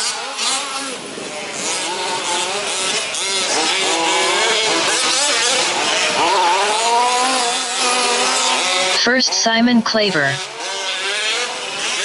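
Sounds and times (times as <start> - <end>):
small two-stroke engines revving: 0.0 - 12.0.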